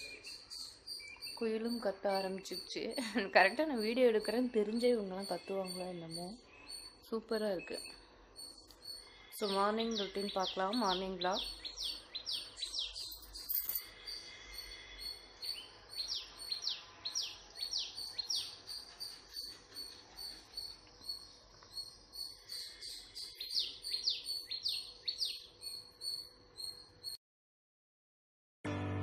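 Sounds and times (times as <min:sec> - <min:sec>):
insect trill: 0:00.6 - 0:11.8, 0:12.4 - 0:27.2.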